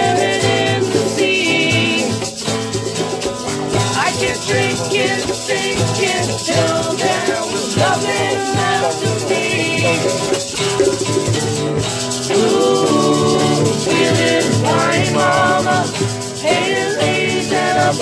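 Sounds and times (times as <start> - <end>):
woman singing lead: 0.0 - 2.4, 3.9 - 10.5, 12.3 - 18.0
group singing: 0.0 - 2.7, 3.8 - 10.9, 12.1 - 18.0
guitar: 0.0 - 18.0
shaken rattle: 0.0 - 18.0.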